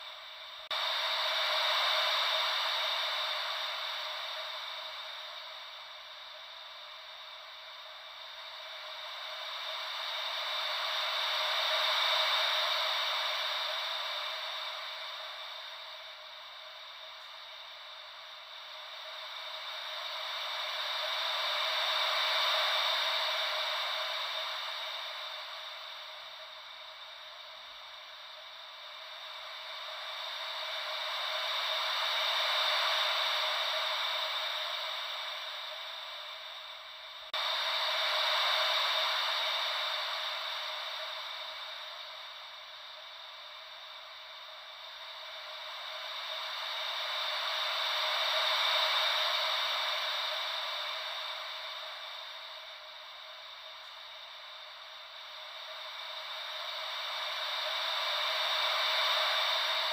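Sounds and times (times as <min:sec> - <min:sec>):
ocean waves white noise hiss: 0:00.0 - 0:59.9.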